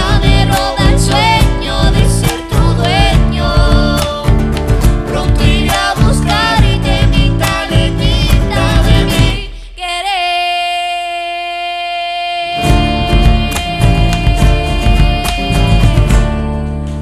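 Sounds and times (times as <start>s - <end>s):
strummed acoustic guitars: 0.0s - 9.6s, 12.6s - 17.0s
percussion: 0.0s - 9.8s, 12.6s - 17.0s
bass: 0.0s - 10.6s, 12.6s - 17.0s
people singing: 0.0s - 17.0s.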